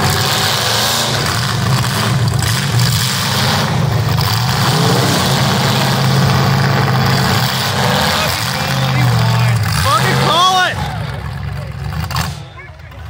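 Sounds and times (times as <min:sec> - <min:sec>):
loud car engines running: 0:00.0 - 0:13.0.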